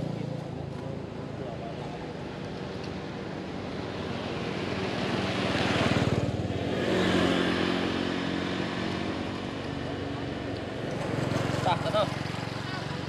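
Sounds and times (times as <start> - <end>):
motorbike passing: 0.0 - 13.0.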